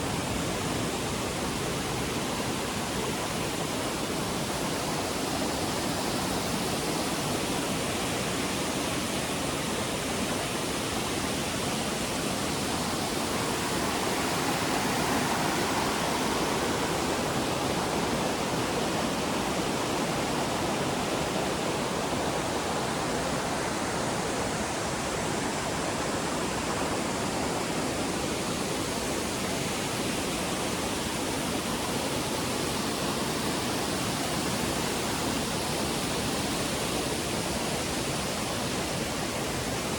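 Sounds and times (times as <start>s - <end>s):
waterfall rushing: 1.6s - 39.9s.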